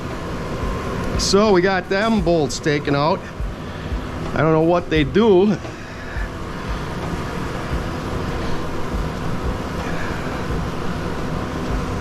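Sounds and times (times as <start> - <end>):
background rumble and hiss: 0.0 - 12.0.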